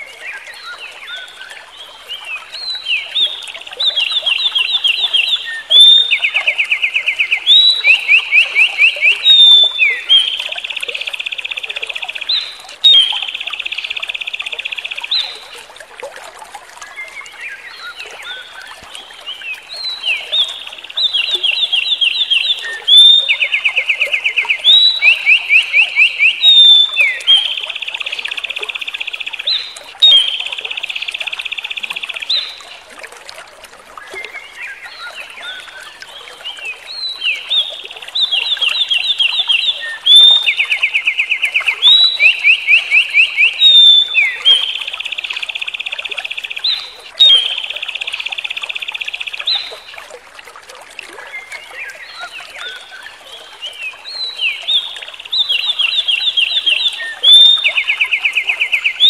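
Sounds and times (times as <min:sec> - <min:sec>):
songbird trilling song: 0:02.2 - 0:15.5, 0:16.9 - 0:32.7, 0:34.1 - 0:49.9, 0:51.3 - 0:59.0.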